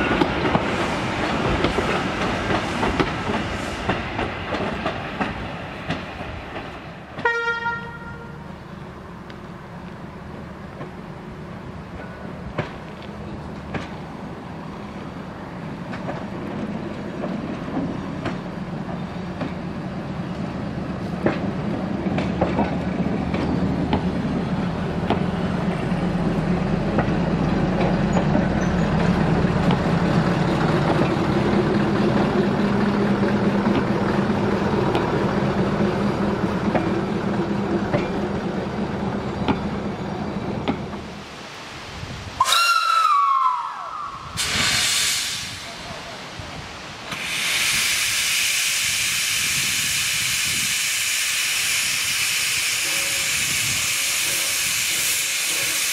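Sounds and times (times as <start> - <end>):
diesel railcar engine hum: 0.0 - 55.9.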